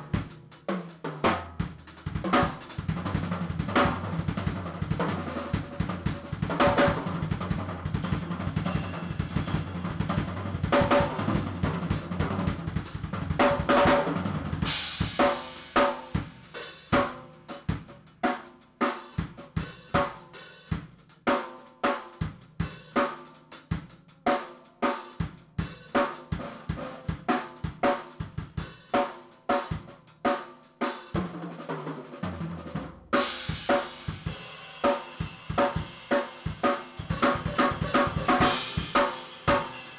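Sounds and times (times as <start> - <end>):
drum kit playing fast: 0.0 - 39.9.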